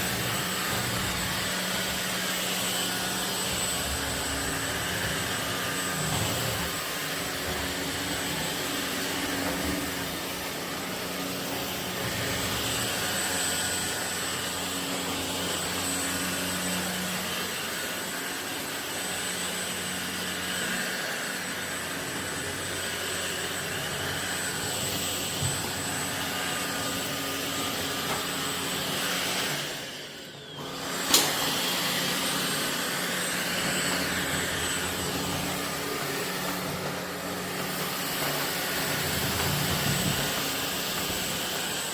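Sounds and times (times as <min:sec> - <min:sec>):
vacuum cleaner motor whine: 0:00.0 - 0:41.9.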